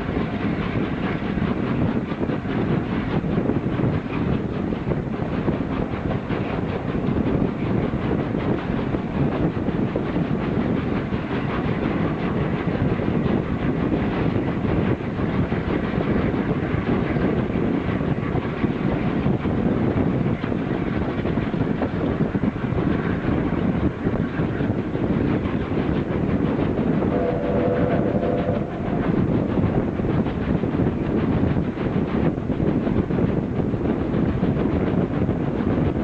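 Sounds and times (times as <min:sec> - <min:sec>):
steam train running: 0:00.0 - 0:36.0.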